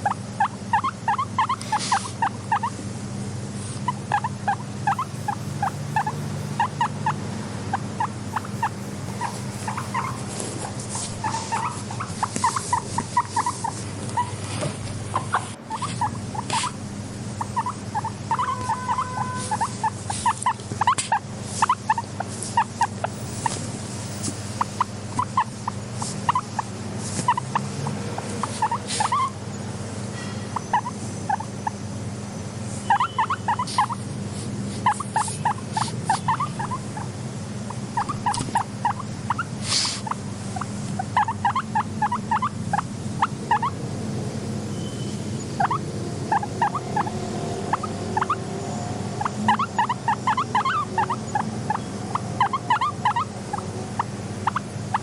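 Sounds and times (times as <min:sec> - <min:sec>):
guinea pig squeaking: 0:00.0 - 0:29.5, 0:30.1 - 0:31.8, 0:32.7 - 0:43.8, 0:44.7 - 0:55.0
steady low hum: 0:00.0 - 0:55.0.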